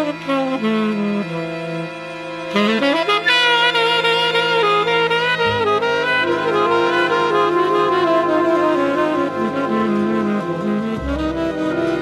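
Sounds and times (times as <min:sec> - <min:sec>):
jazz orchestra: 0:00.0 - 0:12.0
saxophone melody: 0:00.0 - 0:12.0.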